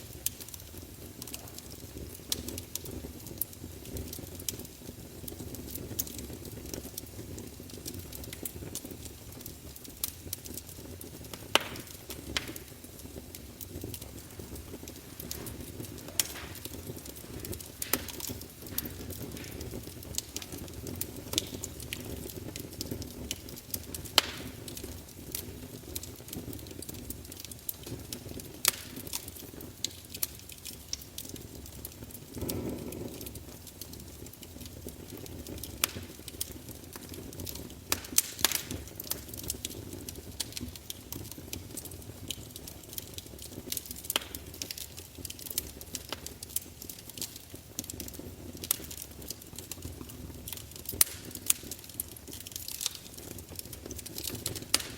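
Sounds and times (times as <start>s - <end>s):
fire popping and crackling: 0.0s - 54.9s
log fire rumble: 0.0s - 54.9s.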